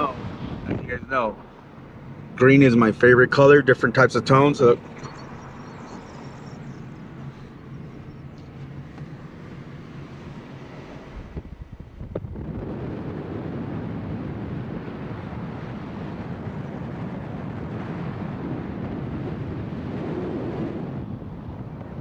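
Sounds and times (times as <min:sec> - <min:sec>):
car road noise: 0:00.0 - 0:22.0
wind rushing over microphone: 0:00.0 - 0:22.0.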